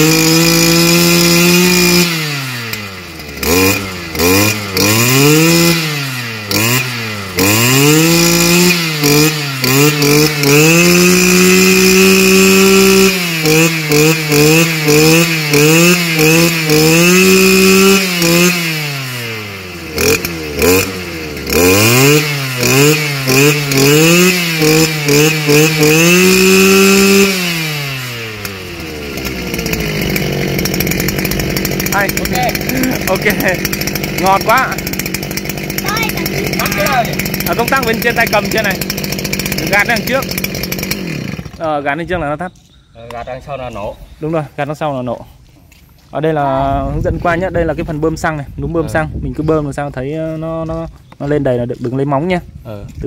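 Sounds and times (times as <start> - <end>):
brush cutter engine revving: 0.0 - 42.5.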